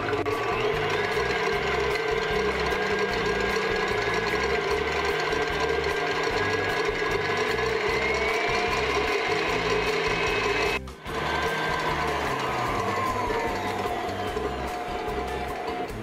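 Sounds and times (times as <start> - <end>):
stand mixer whirring: 0.0 - 16.0
steady whine: 0.0 - 16.0.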